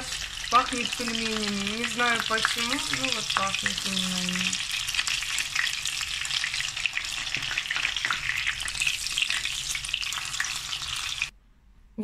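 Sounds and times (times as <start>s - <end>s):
food frying in oil: 0.0s - 11.3s.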